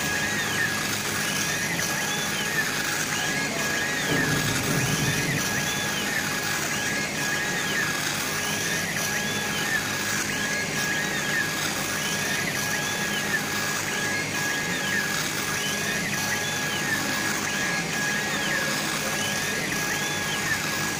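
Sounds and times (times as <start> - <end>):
laser engraver motors whining: 0.0 - 20.9
steady high tone: 0.0 - 20.9.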